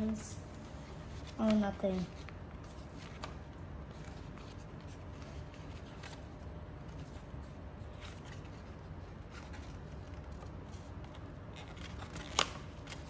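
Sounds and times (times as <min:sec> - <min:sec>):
low room hum: 0:00.0 - 0:13.0
paper rustling and crackling: 0:00.0 - 0:13.0.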